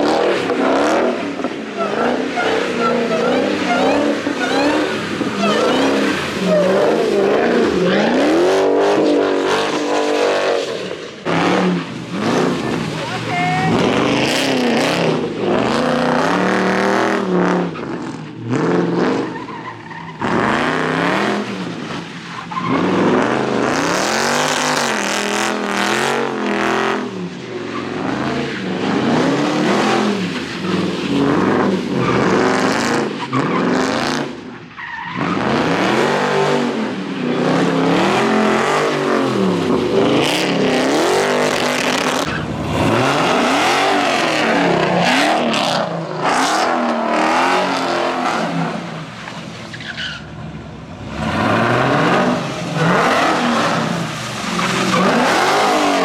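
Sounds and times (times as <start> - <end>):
car engine revving: 0.0 - 56.0
tyres squealing and skidding: 0.0 - 56.0.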